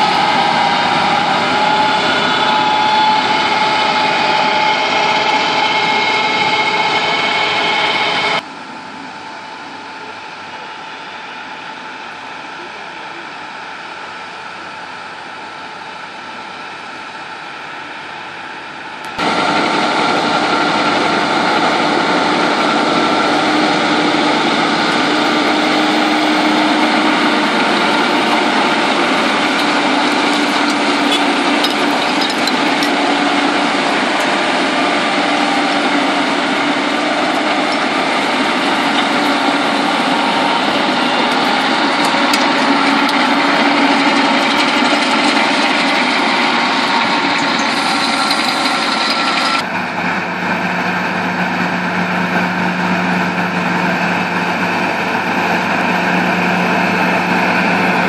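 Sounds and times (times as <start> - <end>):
harrow mechanical hum and churn: 0.0 - 58.0
tractor diesel engine under load: 0.0 - 58.0.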